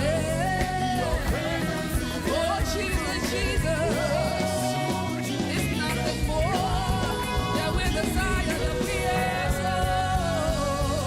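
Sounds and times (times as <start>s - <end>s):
keyboard chords: 0.0s - 11.0s
steady bass: 0.0s - 11.0s.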